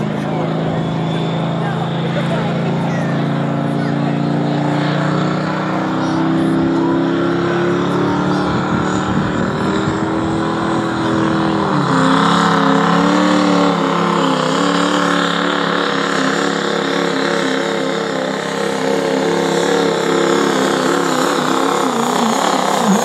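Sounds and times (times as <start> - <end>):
diesel truck engine at full throttle: 0.0 - 23.0.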